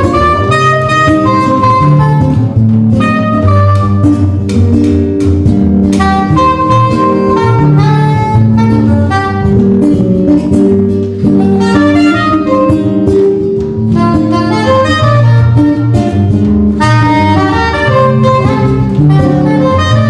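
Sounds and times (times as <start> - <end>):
live trio playing music: 0.0 - 20.0
low bass notes: 0.0 - 20.0.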